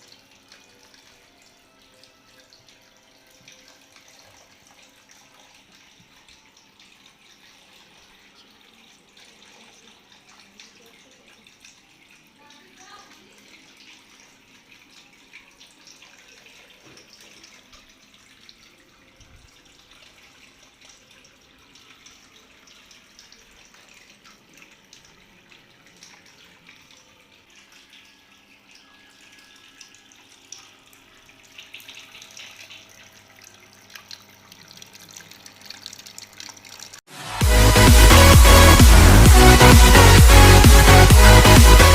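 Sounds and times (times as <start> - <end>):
fountain water trickling: 0.0 - 37.1.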